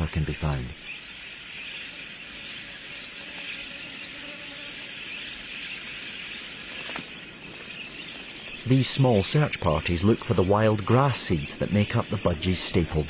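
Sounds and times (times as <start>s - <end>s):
insect chorus chirring: 0.0s - 13.0s.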